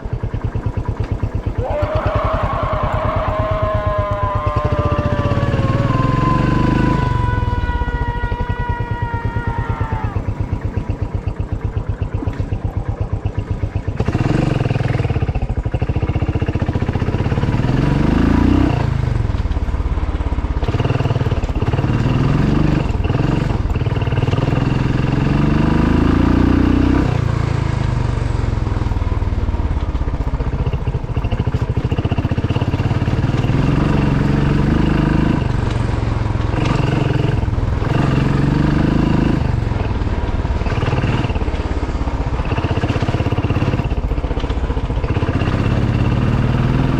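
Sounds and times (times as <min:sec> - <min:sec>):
motorcycle engine accelerating: 0:00.7 - 0:46.9.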